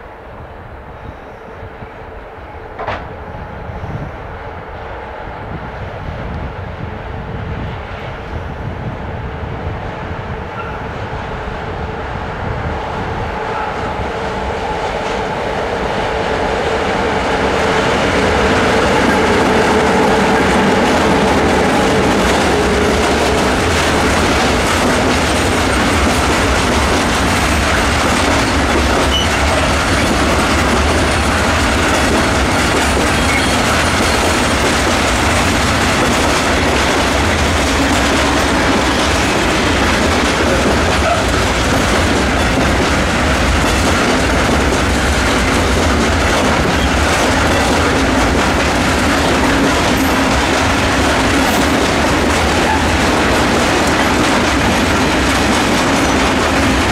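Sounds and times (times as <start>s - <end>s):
steel train wheels on rails: 2.4s - 56.9s.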